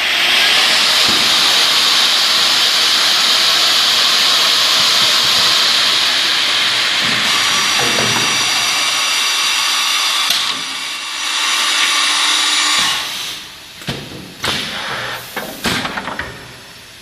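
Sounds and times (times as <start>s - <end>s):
machine cutting wood hiss: 0.0s - 13.7s.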